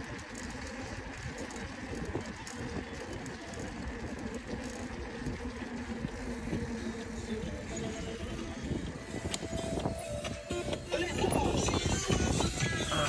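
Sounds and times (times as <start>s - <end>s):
mountain bike rolling on concrete: 0.0s - 13.0s
wind rumbling on microphone: 0.0s - 13.0s.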